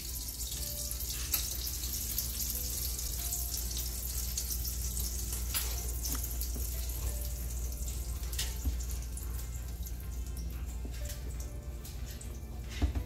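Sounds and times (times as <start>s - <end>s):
butter sizzling on hot plates: 0.0s - 13.0s.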